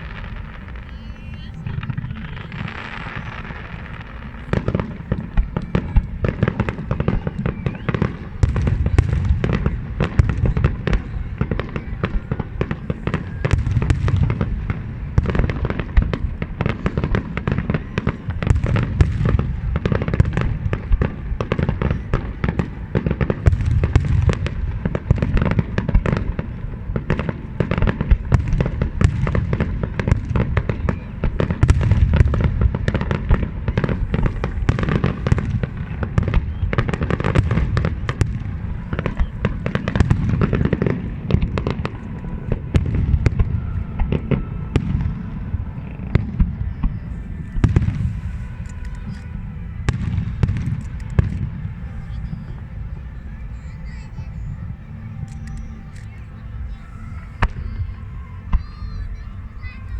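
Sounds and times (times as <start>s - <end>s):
heavy fireworks booms: 0.0s - 55.4s, 57.4s - 59.9s
fireworks bangs and crackles: 0.0s - 59.9s.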